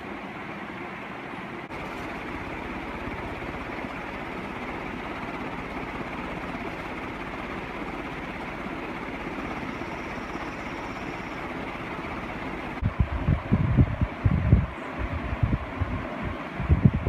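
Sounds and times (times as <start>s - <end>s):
ceiling fan running: 0.0s - 17.0s
fast low pulsing: 1.7s - 17.0s.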